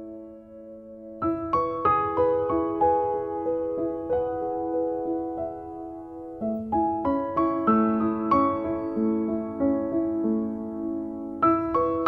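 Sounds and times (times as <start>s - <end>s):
gentle piano notes: 0.0s - 12.0s.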